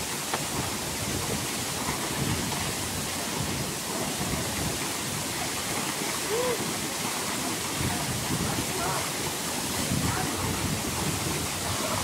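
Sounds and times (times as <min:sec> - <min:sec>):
waterfall pouring into pool: 0:00.0 - 0:12.0.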